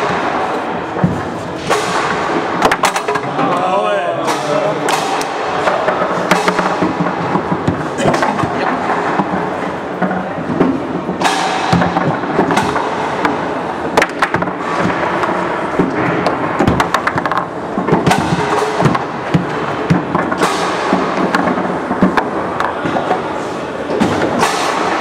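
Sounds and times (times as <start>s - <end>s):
foosball cracking off walls: 0.0s - 3.6s, 4.2s - 23.3s.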